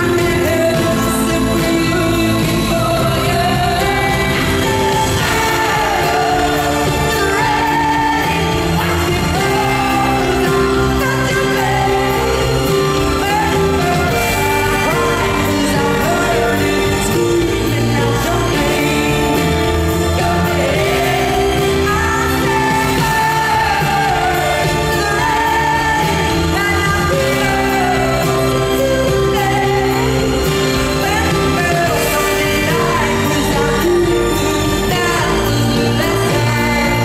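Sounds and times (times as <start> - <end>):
full band playing: 0.0 - 37.0
woman singing pop song: 0.0 - 37.0.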